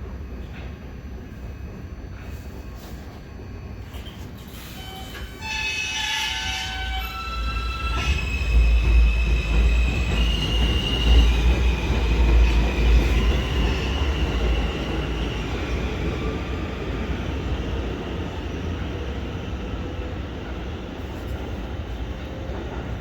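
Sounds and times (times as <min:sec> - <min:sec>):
subway train rumble: 0:00.0 - 0:23.0.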